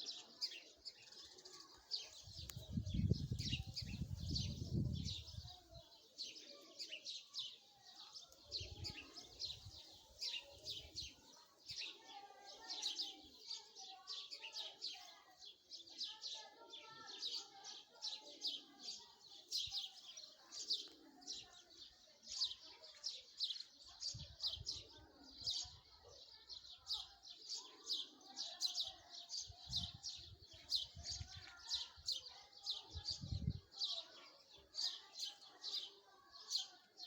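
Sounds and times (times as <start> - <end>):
small songbirds chirping: 0.0 - 17.8, 18.4 - 37.0.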